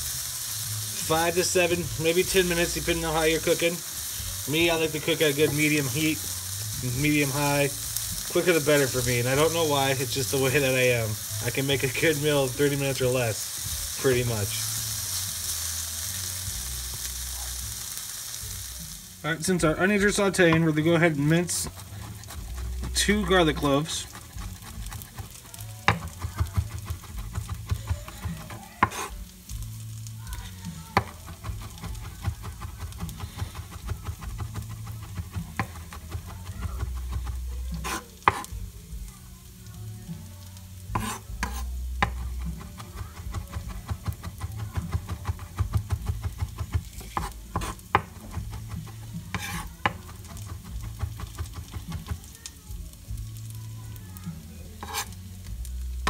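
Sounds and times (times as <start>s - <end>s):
onions sizzling in a pan: 0.0s - 56.0s.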